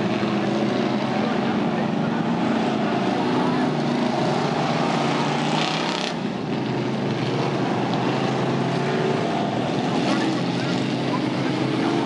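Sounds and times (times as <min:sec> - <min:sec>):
truck engines racing past: 0:00.0 - 0:12.0.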